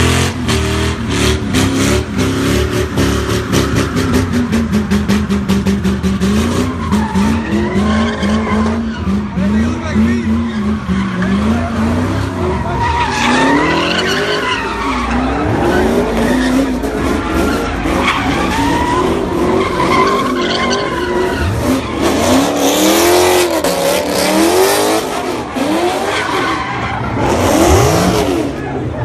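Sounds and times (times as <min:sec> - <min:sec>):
car engine revving hard: 0:00.0 - 0:29.0
tires screeching: 0:00.0 - 0:29.0.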